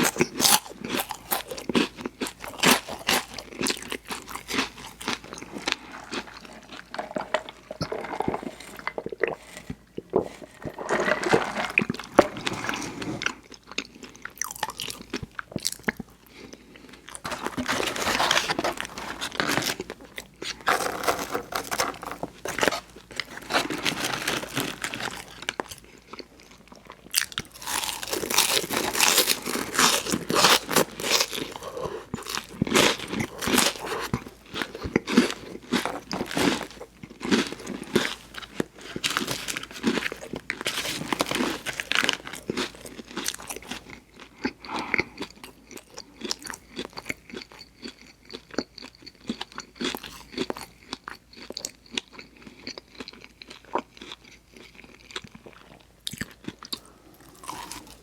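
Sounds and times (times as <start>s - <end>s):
person crunchy chewing: 0.0s - 58.0s.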